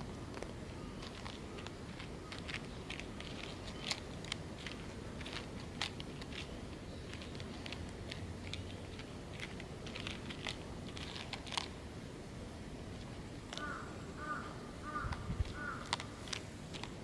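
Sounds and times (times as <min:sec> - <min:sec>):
crisp clicks and crunches: 0:00.0 - 0:11.8, 0:12.9 - 0:13.7, 0:15.1 - 0:17.0.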